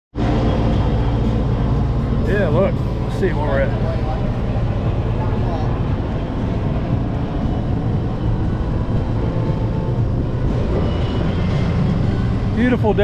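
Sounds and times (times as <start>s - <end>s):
boat engine running: 0.2s - 13.0s.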